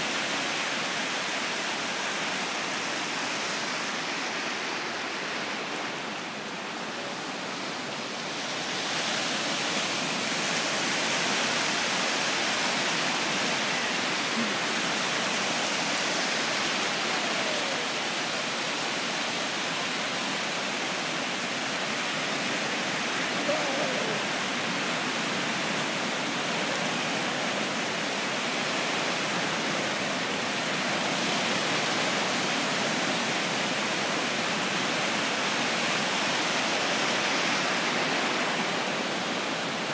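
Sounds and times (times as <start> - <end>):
ocean surf breaking: 3.3 - 39.9.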